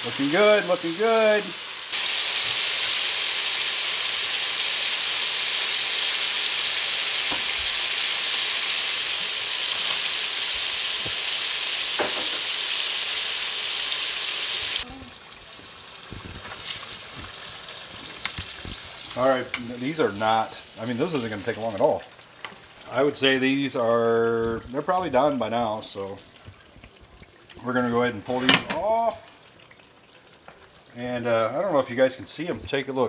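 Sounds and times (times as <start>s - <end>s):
fish frying in hot oil: 0.0s - 31.8s.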